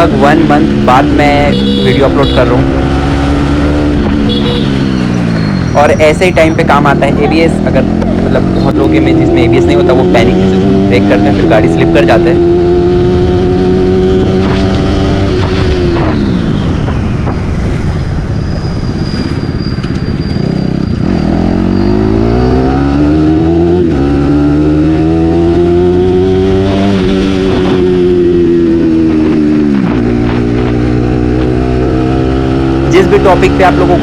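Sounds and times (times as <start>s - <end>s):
motorcycle engine and exhaust: 0.0s - 34.0s.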